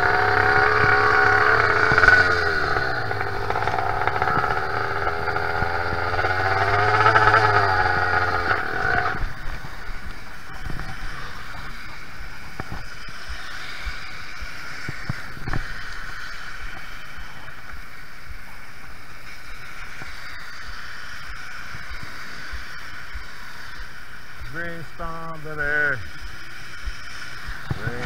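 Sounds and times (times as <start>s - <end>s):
motorized bicycle engine: 0.0s - 28.0s
wind and water spray hiss: 0.0s - 28.0s.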